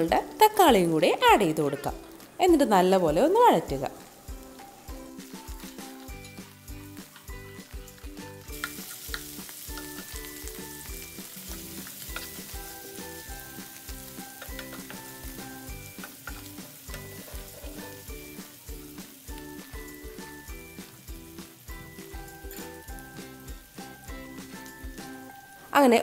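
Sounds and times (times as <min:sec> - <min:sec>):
background music with steady beat: 0:00.0 - 0:26.0
food sizzling in frying pan: 0:00.0 - 0:26.0.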